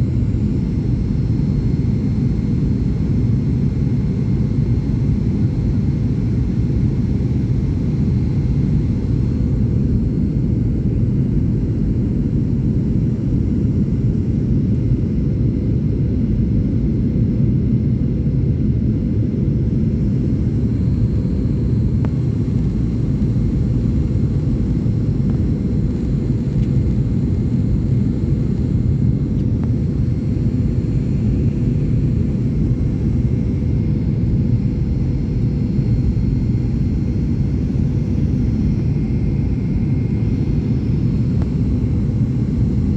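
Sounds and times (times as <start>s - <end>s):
airliner engines rumbling: 0.0s - 42.9s
faint steady hum: 0.0s - 42.9s.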